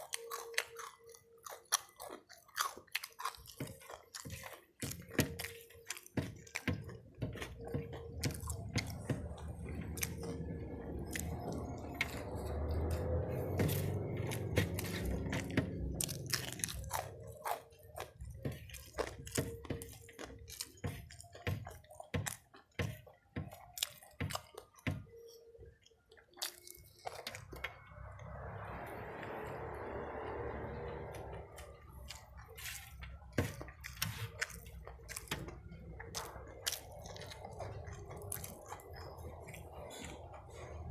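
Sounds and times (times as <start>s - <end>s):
chewing crispy food: 0.0s - 40.9s.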